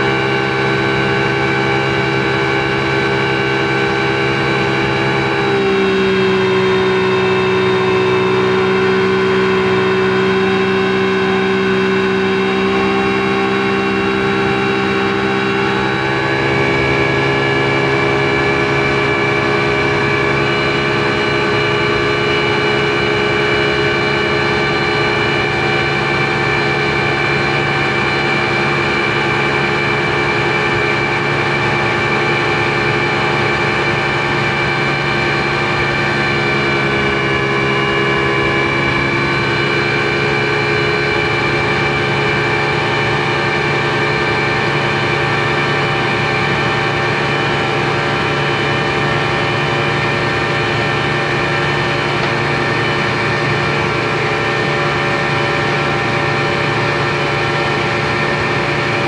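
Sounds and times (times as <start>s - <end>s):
speedboat engine running: 0.0s - 59.0s.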